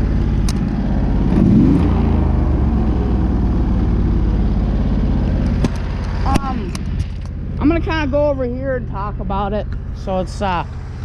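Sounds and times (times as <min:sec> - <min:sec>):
lawn tractor engine running: 0:00.0 - 0:11.0.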